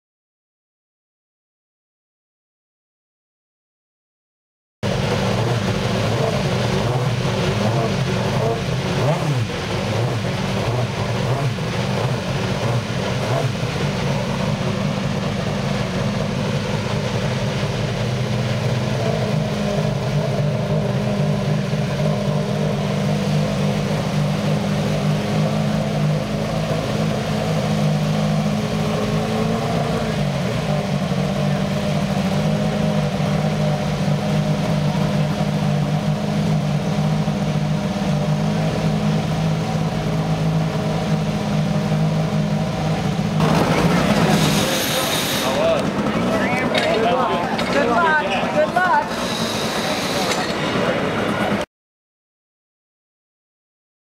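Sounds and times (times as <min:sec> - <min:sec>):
racing car engine revving: 0:04.8 - 0:51.6.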